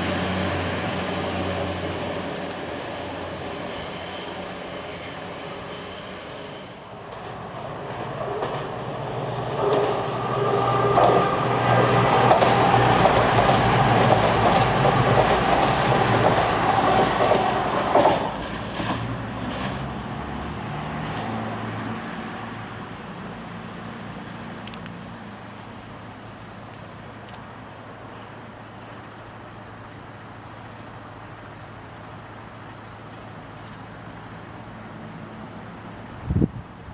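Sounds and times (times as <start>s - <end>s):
train passing: 0.0s - 36.8s.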